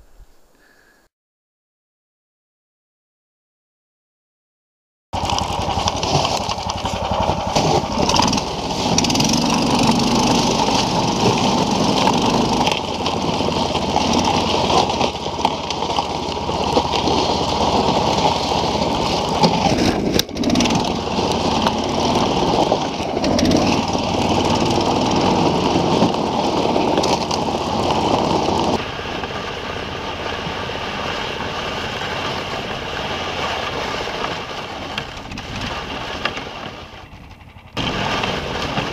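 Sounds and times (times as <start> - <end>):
small engine running: 5.2 - 38.9.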